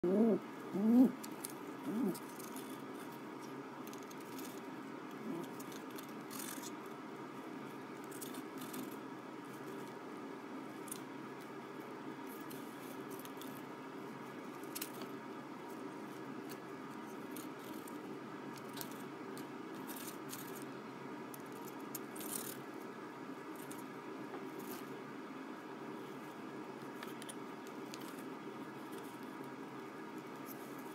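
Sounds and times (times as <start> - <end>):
low room hum: 0.0 - 30.9.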